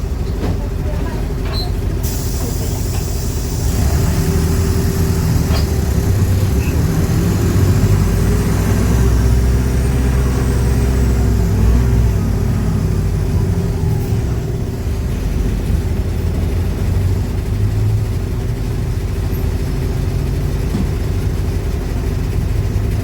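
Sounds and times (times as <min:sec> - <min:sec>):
bus diesel engine under load: 0:00.0 - 0:23.0.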